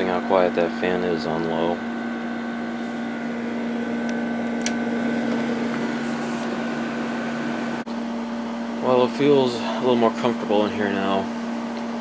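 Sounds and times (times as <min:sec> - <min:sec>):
air conditioner humming: 0:00.0 - 0:12.0
fan rushing: 0:00.0 - 0:12.0.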